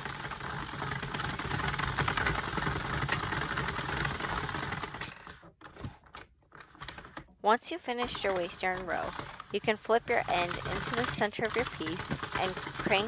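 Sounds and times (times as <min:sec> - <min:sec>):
knitting machine clicking rattle: 0:00.0 - 0:07.3, 0:08.0 - 0:13.0.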